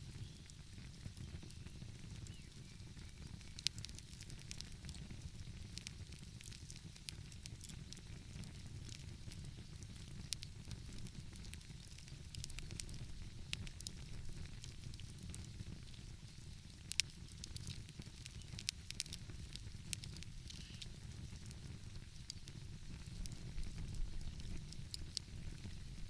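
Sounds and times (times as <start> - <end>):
fire popping and snapping: 0.0 - 26.0
wood fire crackling: 0.0 - 26.0.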